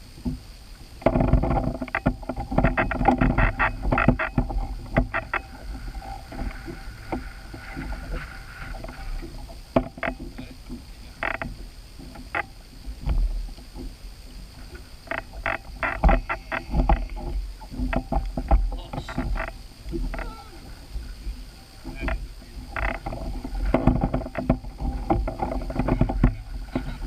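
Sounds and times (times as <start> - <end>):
knocks and clatters on a boat: 0.0 - 27.0
wind rumble on microphone: 0.0 - 27.0.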